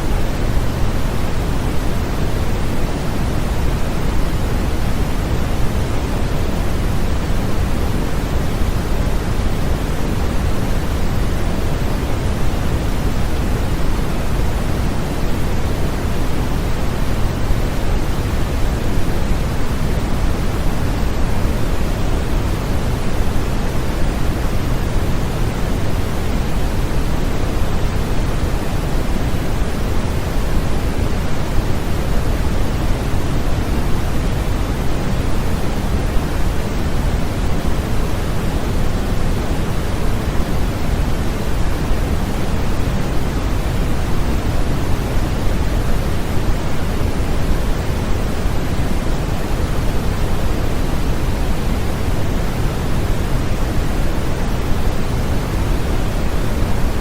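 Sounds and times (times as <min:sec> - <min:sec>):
steady low synthetic hiss: 0:00.0 - 0:57.0.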